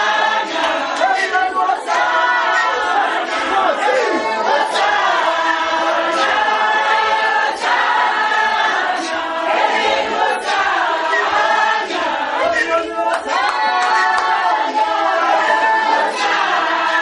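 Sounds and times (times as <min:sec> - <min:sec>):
congregation singing: 0:00.0 - 0:17.0.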